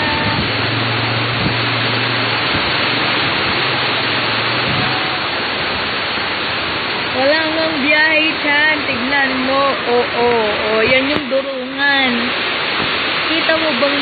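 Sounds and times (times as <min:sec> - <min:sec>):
heavy rain: 0:00.0 - 0:14.0
strong wind: 0:00.0 - 0:14.0
wind buffeting microphone: 0:00.0 - 0:14.0.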